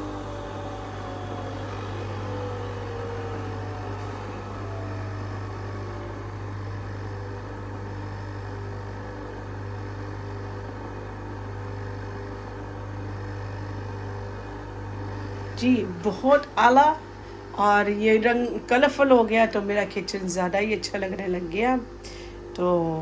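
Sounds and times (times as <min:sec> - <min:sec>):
coffee machine humming: 0:00.0 - 0:23.0.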